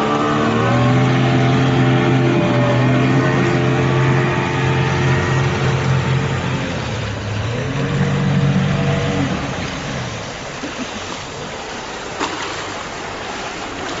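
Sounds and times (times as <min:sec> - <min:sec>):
outboard motor running: 0:00.0 - 0:14.0
water rushing: 0:00.0 - 0:14.0.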